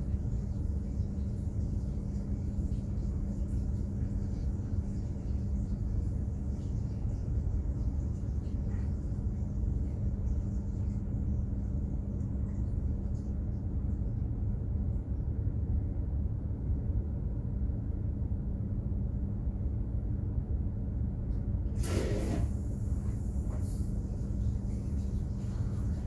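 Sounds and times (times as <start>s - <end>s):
constant low hum: 0.0s - 26.0s.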